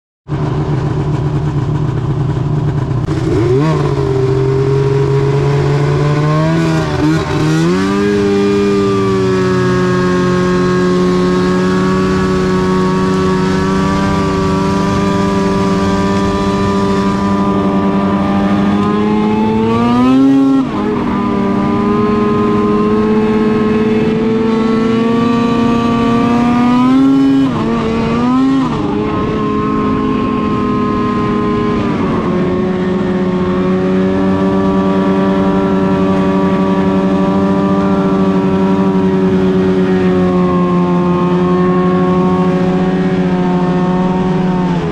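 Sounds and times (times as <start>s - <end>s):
snowmobile engine under throttle: 0.3s - 44.9s.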